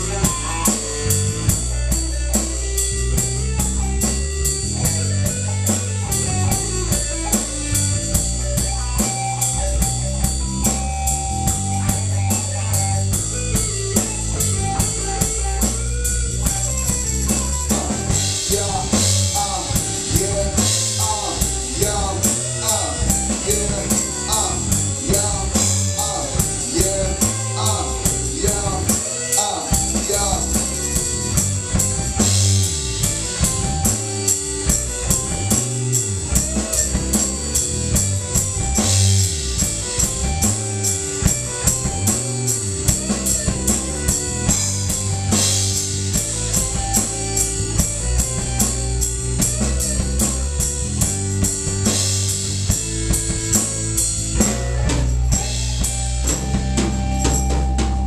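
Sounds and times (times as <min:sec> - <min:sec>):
live rock band instrumental: 0:00.0 - 0:58.0.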